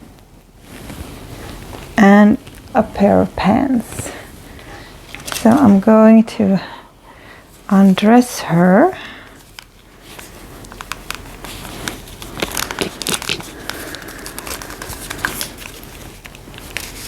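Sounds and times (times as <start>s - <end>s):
rustling and crinkling: 0.0s - 6.2s, 8.8s - 17.0s.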